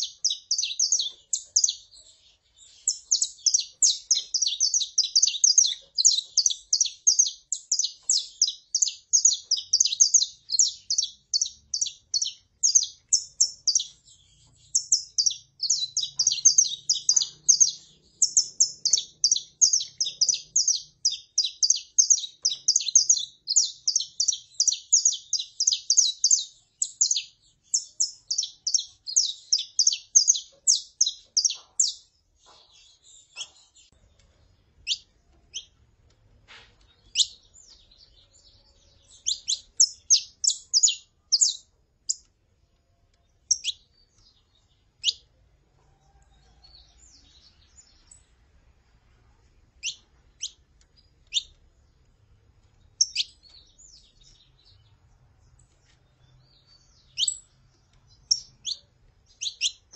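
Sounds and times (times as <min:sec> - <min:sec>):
finches chirping: 0:00.0 - 0:33.9, 0:37.0 - 0:42.3, 0:43.4 - 0:45.3, 0:49.8 - 0:51.6, 0:52.8 - 0:54.9, 0:55.9 - 0:59.9.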